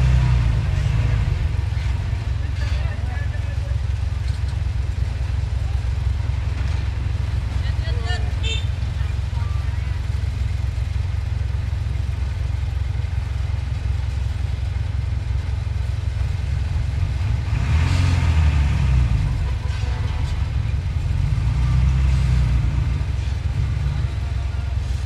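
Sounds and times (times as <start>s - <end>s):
heavy diesel engine rumbling: 0.0s - 25.0s.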